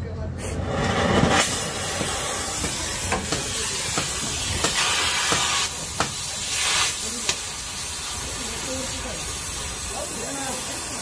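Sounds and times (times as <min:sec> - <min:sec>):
cutting torch hissing: 0:00.3 - 0:11.0
torch popping: 0:00.4 - 0:11.0.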